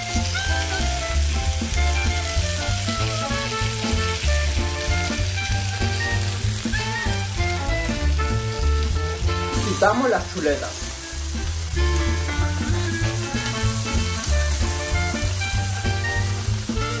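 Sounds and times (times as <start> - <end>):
background music with deep bass: 0.0 - 17.0
meat sizzling in grill pan: 0.0 - 17.0.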